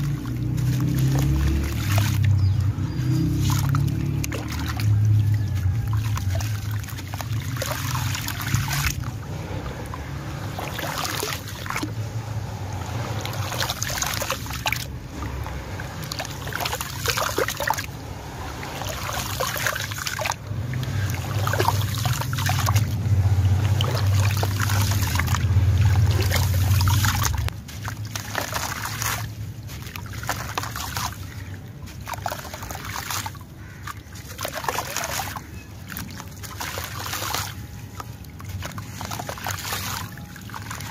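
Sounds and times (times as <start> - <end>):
gritty crackling in water: 0.0 - 40.9.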